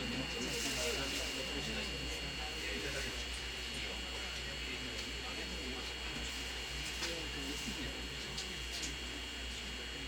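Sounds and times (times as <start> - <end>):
electrical hum with high whine: 0.0 - 10.0.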